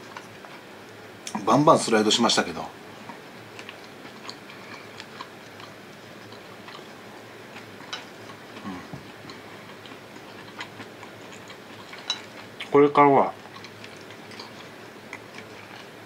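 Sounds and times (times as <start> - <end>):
person chewing food: 0.0 - 1.4, 2.8 - 16.0.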